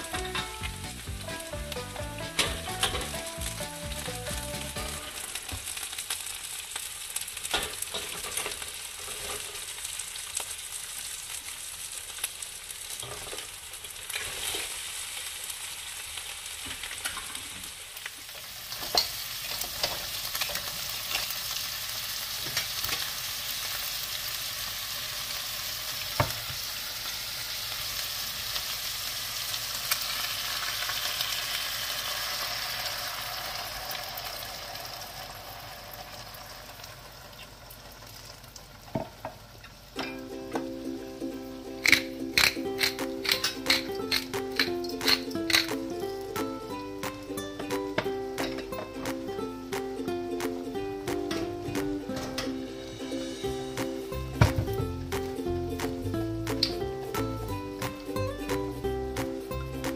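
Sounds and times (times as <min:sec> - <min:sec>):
food sizzling in a wok: 0:00.0 - 0:59.9.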